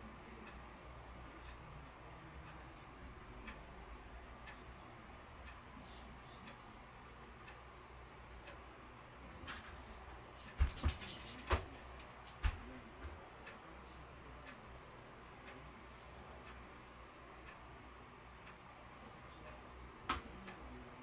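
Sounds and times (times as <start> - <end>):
faint steady ticking: 0.0 - 21.0.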